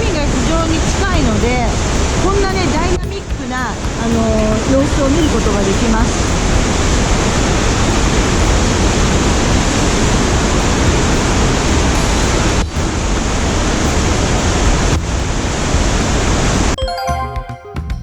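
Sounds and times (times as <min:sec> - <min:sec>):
ship's wake rushing water: 0:00.0 - 0:16.8.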